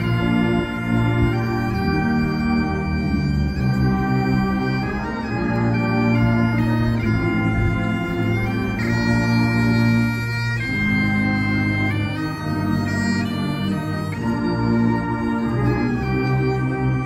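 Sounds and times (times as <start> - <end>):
bagpipes playing slow melody: 0.0 - 17.0.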